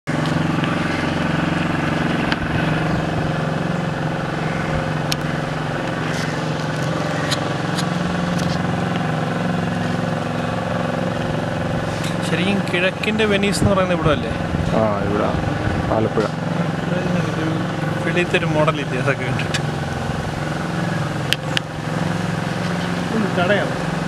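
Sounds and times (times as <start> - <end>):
small boat motor running: 0.0 - 24.0.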